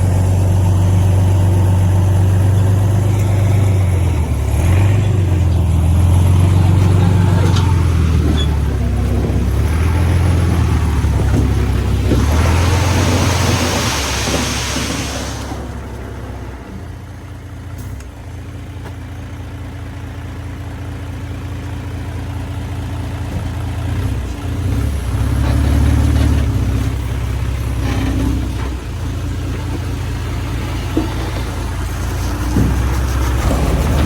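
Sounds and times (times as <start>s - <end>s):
diesel machinery engine hum: 0.0s - 34.0s.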